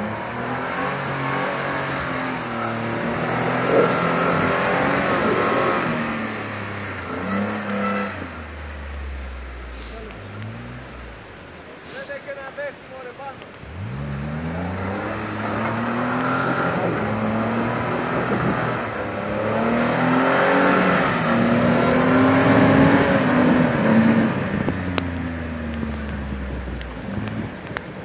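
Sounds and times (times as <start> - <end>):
car engine revving: 0.0 - 11.2, 13.6 - 27.8.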